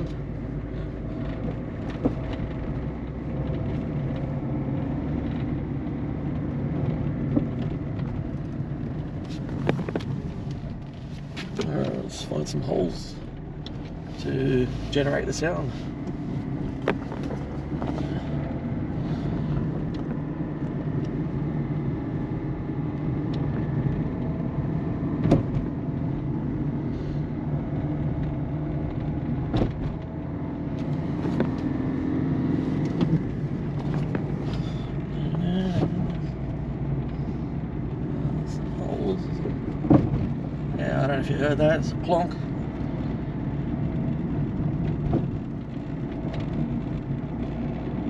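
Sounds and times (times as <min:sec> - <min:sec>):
car engine and road noise: 0:00.0 - 0:48.0
suspension clunks: 0:00.0 - 0:48.0.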